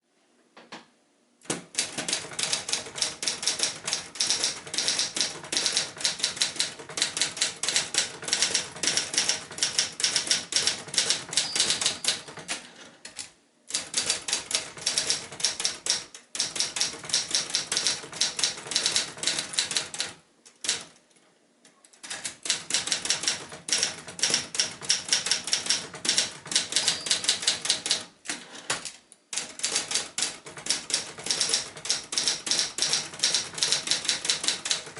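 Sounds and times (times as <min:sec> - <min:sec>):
manual typewriter typing: 0:01.5 - 0:21.0, 0:22.0 - 0:34.9.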